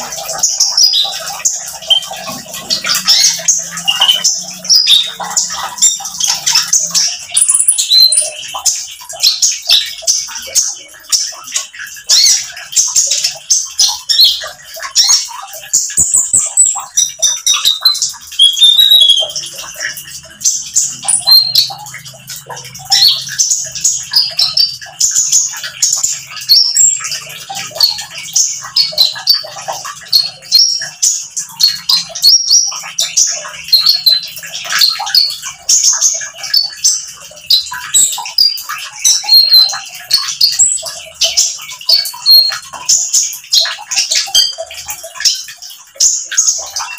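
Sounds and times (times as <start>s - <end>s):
sunbird twittering song: 0.0s - 46.9s.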